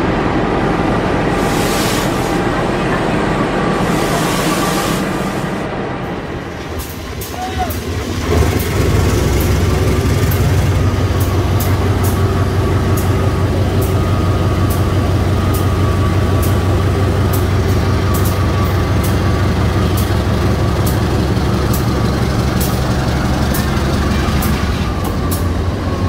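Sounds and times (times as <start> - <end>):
locomotive diesel engine droning: 0.0 - 26.0.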